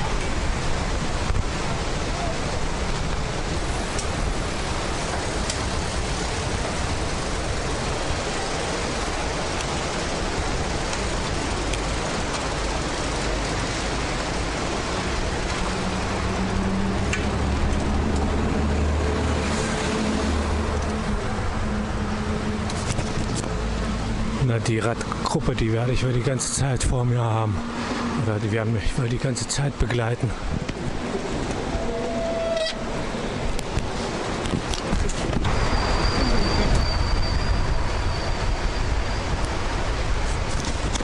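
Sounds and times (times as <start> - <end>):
road and wind noise from traffic: 0.0 - 41.0.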